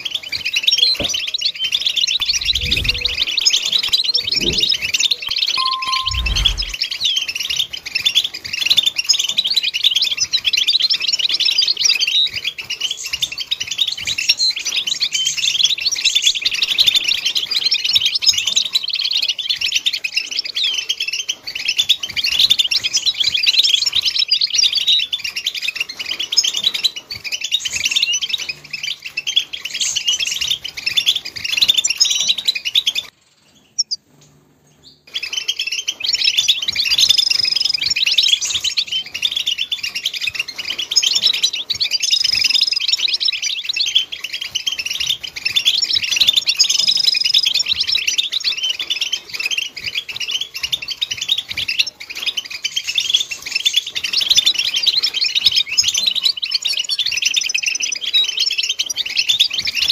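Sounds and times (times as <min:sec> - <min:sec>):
finch twittering song: 0:00.0 - 0:59.9.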